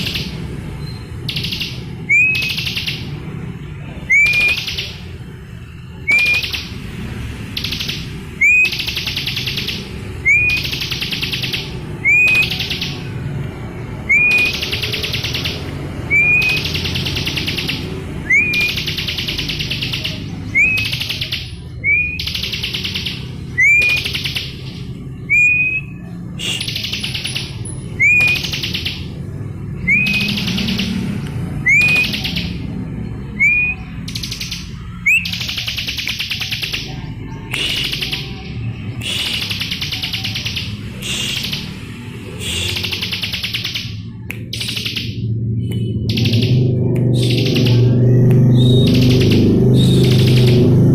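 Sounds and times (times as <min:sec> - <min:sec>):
bird whistle and rattling trill: 0:00.0 - 0:03.2, 0:04.0 - 0:05.2, 0:05.9 - 0:13.2, 0:14.0 - 0:36.9, 0:37.5 - 0:45.3, 0:45.9 - 0:50.9.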